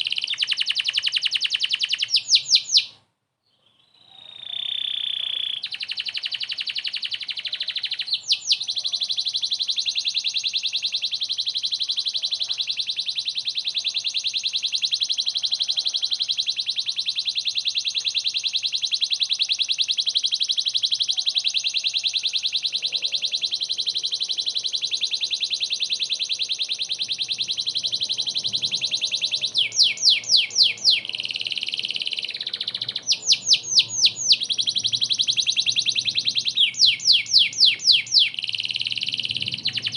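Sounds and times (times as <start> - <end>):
canary singing rapid trill: 0.0 - 3.0, 3.8 - 39.9.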